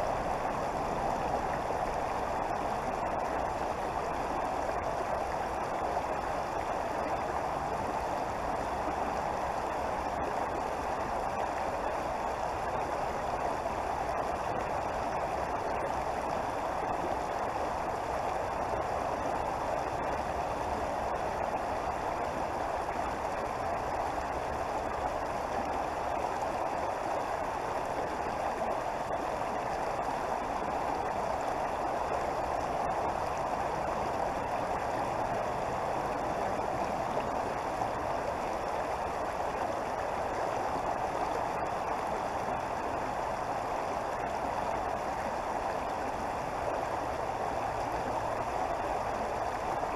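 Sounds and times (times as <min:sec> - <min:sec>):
creek water flowing: 0:00.0 - 0:49.9.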